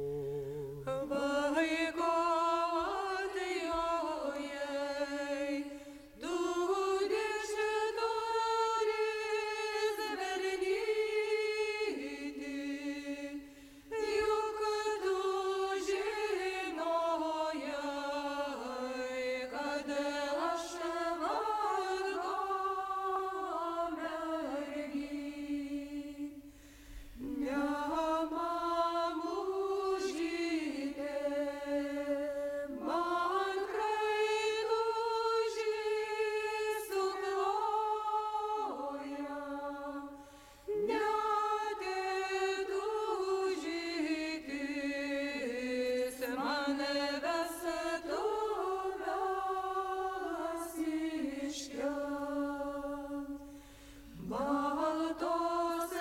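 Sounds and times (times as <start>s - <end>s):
folk ensemble singing: 0.0s - 56.0s.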